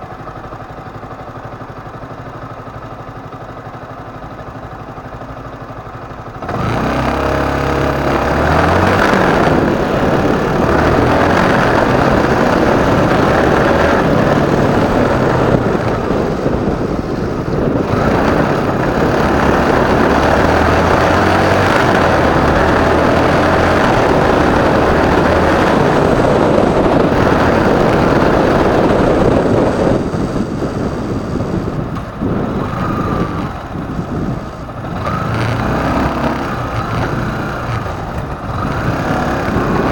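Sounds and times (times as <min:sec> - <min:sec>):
motorcycle engine changing gears: 0:00.1 - 0:39.9
loud steady rushing noise: 0:06.4 - 0:39.9.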